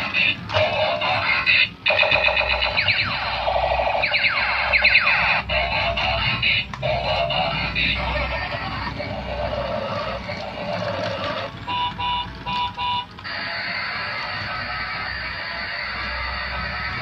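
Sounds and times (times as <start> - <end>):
tinny electronic toy music: 0.0 - 17.0.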